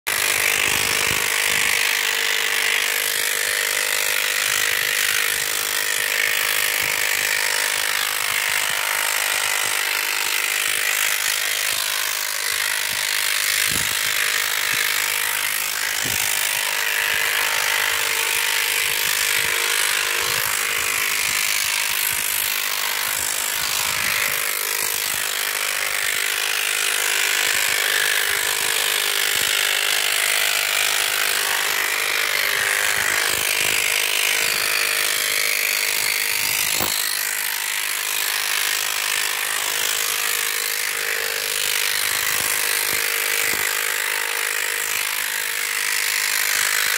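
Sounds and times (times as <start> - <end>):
electric hair clipper buzzing: 0.1 - 46.9.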